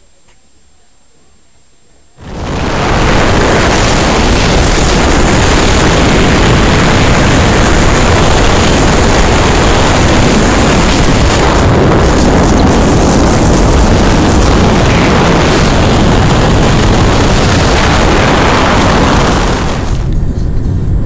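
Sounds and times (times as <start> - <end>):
wind buffeting microphone: 2.2 - 21.0.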